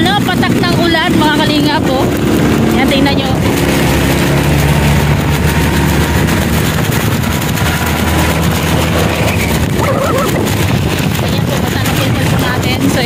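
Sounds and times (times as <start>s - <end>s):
motor scooter engine running: 0.0s - 13.0s
wind on microphone: 0.0s - 13.0s
raindrops hitting phone: 0.2s - 13.0s.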